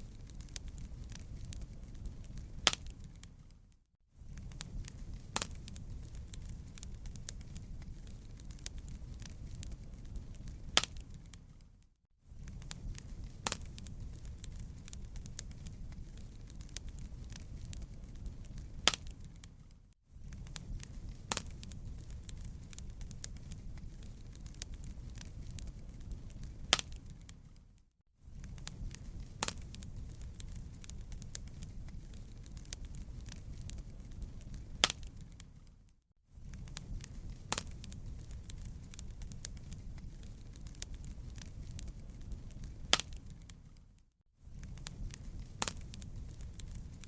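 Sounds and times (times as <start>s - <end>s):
fire crackling and popping: 0.0s - 47.0s
low fire rumble: 0.0s - 47.0s.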